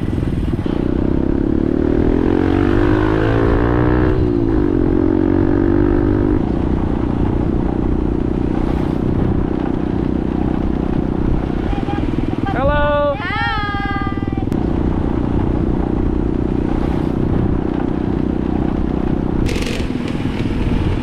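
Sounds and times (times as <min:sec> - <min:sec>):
motorcycle engine accelerating: 0:00.0 - 0:13.0, 0:14.5 - 0:21.0.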